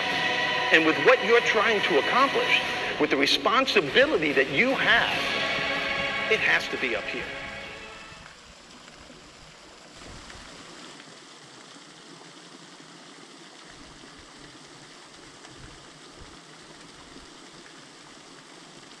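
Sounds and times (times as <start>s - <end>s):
stream and waterfall rushing over rock: 0.0s - 19.0s.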